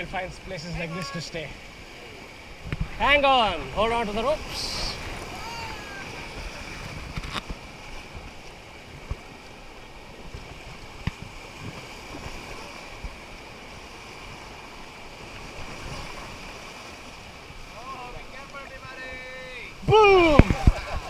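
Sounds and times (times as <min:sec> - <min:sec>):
river water rushing: 0:00.0 - 0:21.0
wind on microphone: 0:02.0 - 0:17.8, 0:19.7 - 0:21.0.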